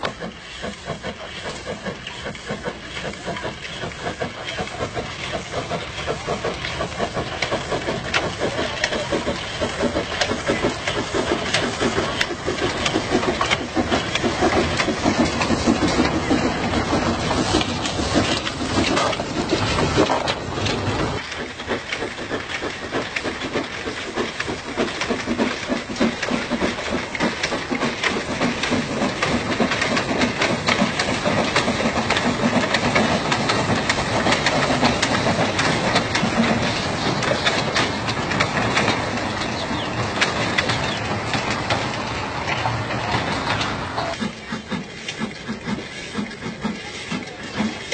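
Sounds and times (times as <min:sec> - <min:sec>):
train wheels clattering over rails: 0:00.0 - 0:47.9.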